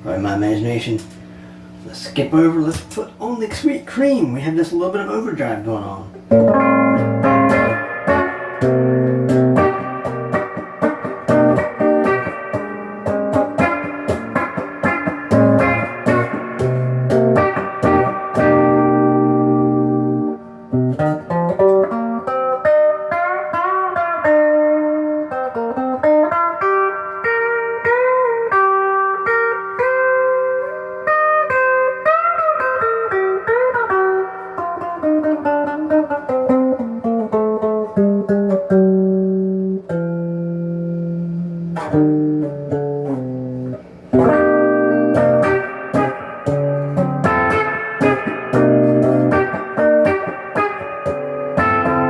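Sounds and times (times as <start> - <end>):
electric guitar chords: 0.0 - 3.4, 5.4 - 52.0
overdriven electric guitar lead: 6.0 - 52.0.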